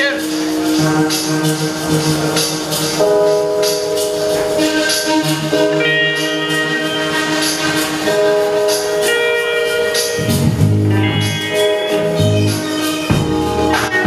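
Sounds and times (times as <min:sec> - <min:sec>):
guitars holding chords: 0:00.0 - 0:14.0.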